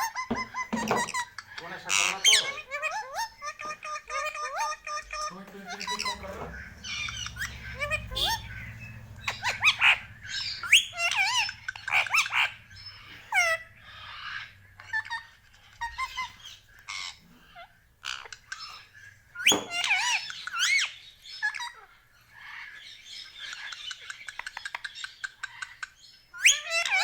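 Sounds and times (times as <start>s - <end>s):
parakeet calling: 0.0s - 27.0s.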